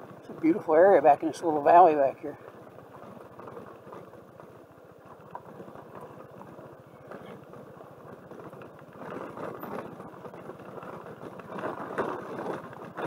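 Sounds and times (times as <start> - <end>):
scooter engine running: 0.0 - 13.0
tyres on gravel road: 0.0 - 13.0.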